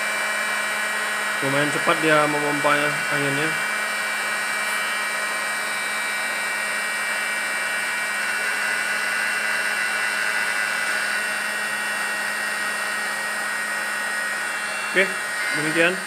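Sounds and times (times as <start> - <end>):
electric air pump running: 0.0 - 16.0.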